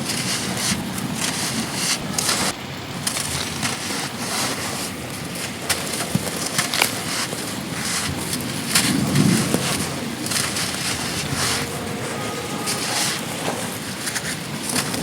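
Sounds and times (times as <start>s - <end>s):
sand being crushed: 0.0s - 15.0s.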